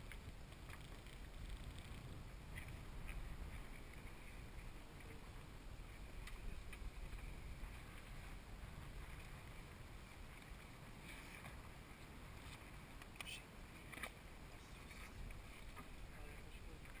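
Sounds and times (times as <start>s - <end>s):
low rumble of wind and water: 0.0s - 17.0s.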